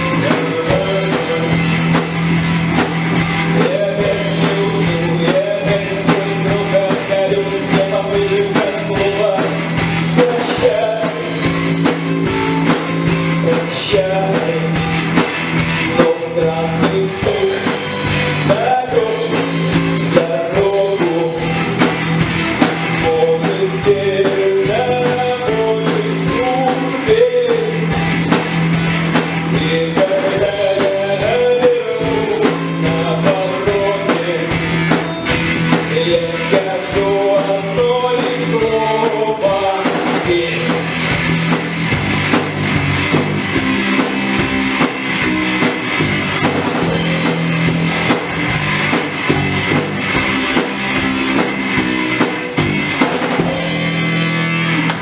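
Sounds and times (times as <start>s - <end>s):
rock band playing a steady beat: 0.0s - 55.0s.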